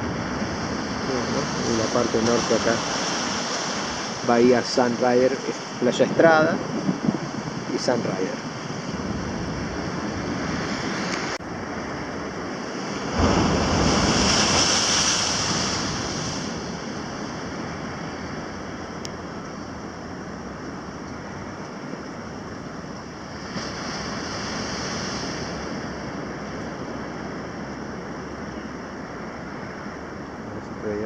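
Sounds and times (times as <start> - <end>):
waves breaking over rocks: 0.0 - 27.6.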